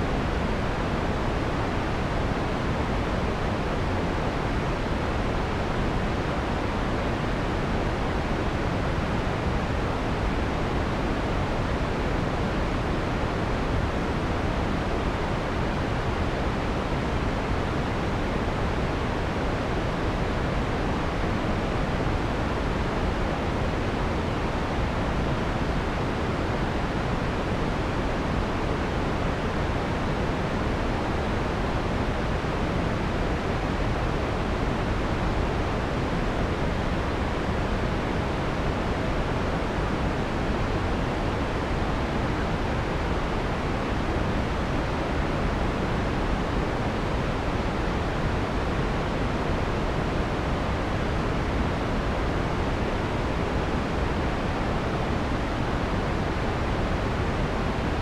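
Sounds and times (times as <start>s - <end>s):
filtered white noise hiss: 0.0s - 58.0s.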